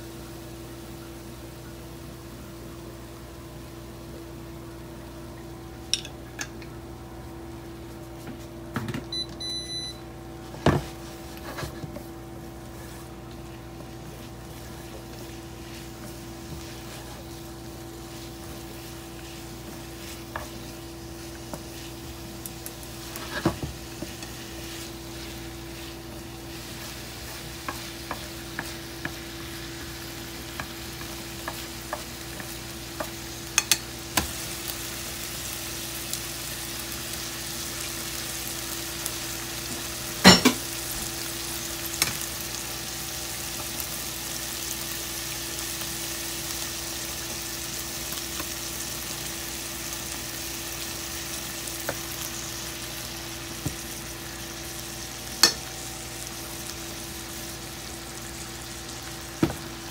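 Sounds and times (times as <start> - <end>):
food sizzling in a frying pan: 0.0 - 6.6, 9.1 - 59.9.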